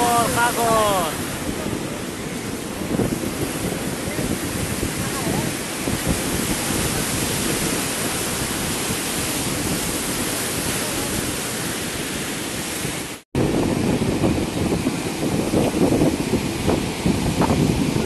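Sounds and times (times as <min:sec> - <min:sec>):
sea waves: 0:00.0 - 0:18.0
wind on microphone: 0:00.0 - 0:18.0.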